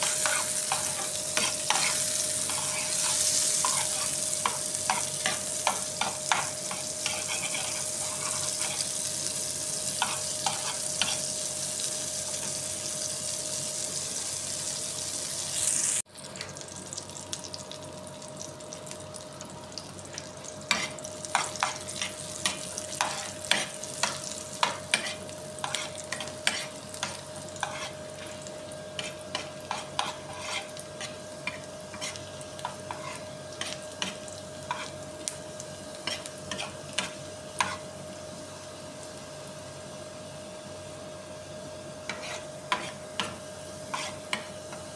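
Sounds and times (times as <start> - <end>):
butter sizzling in a pan: 0.0 - 44.9.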